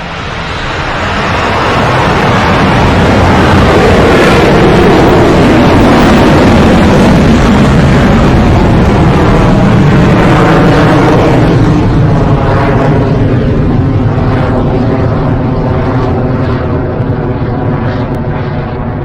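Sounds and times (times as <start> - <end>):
rocket engines thundering: 0.0 - 19.0.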